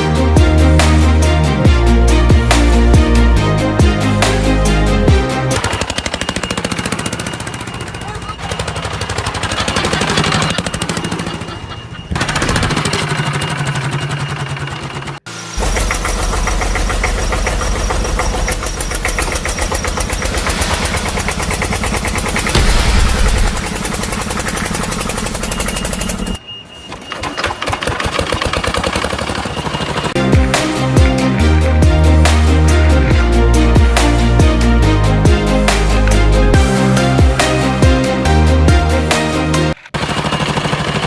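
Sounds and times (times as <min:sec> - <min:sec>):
engine chugging: 0:00.0 - 0:41.0.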